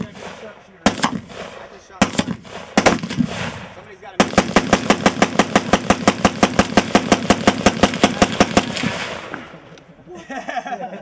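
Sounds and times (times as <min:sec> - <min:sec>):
automatic gunfire: 0:00.0 - 0:09.6
gunfire echo: 0:00.0 - 0:09.8.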